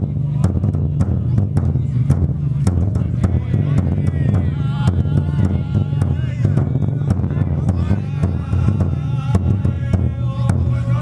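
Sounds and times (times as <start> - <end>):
sharp drum strikes: 0.0 - 10.7
loud low hum: 0.0 - 11.0
voices calling and chanting: 0.0 - 11.0.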